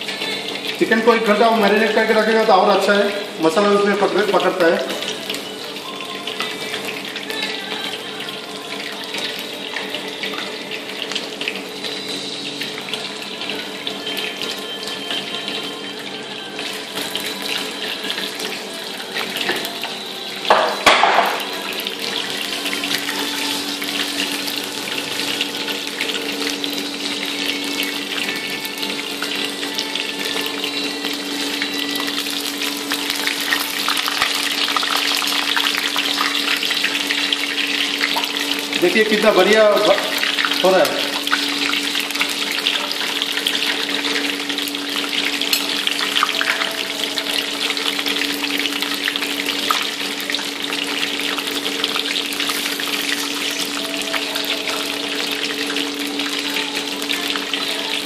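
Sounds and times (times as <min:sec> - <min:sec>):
chicken deep-frying in hot oil: 0:00.0 - 0:58.0.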